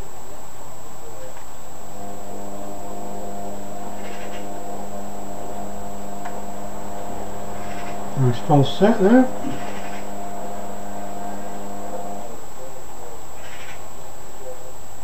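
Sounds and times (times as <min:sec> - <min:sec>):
background noise: 0:00.0 - 0:15.0
electrical hum: 0:01.1 - 0:13.6.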